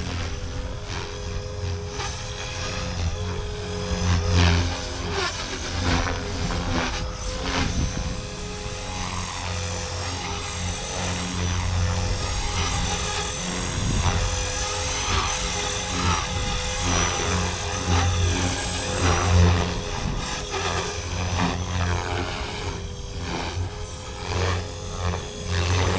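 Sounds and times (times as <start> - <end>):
rc helicopter rotor drone: 0.0 - 25.9
thin motor whine: 0.0 - 25.9.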